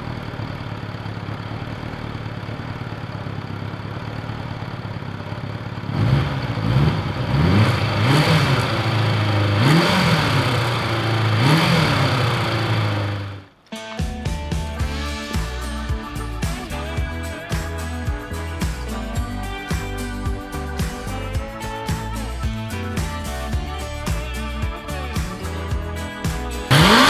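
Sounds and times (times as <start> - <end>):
motorcycle engine idling and revving: 0.0 - 13.5, 14.1 - 27.0.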